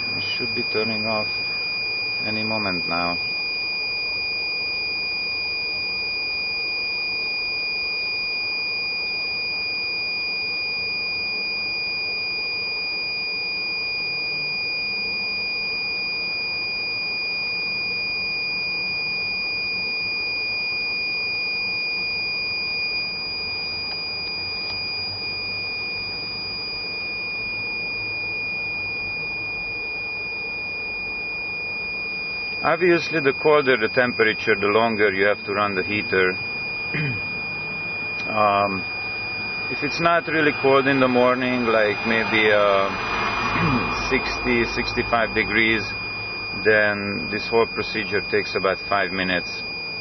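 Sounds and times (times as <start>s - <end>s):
high-pitched electrical whine: 0.0s - 50.0s
low even hum: 0.0s - 50.0s.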